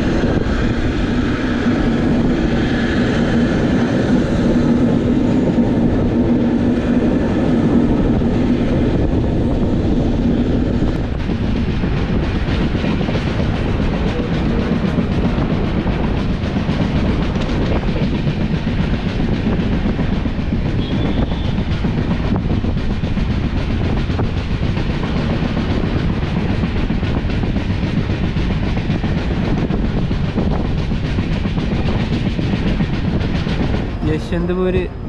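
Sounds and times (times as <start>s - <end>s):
train wheels clattering on rails: 0.0s - 35.0s.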